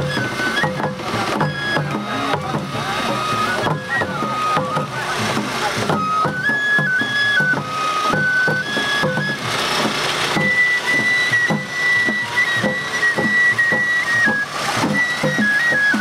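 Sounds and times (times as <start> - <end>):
bamboo flute melody: 0.0 - 16.0
taiko drum beats: 0.0 - 16.0.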